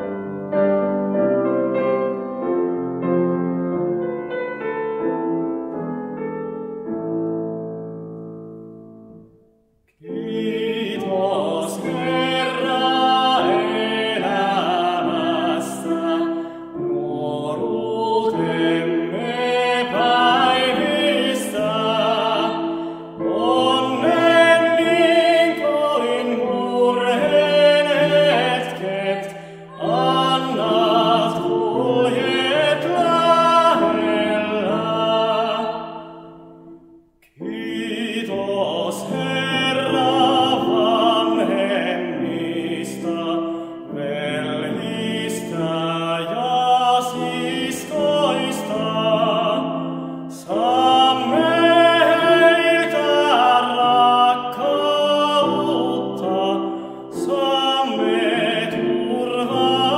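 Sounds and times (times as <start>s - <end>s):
person singing a hymn with piano: 0.0s - 7.1s, 9.9s - 59.9s.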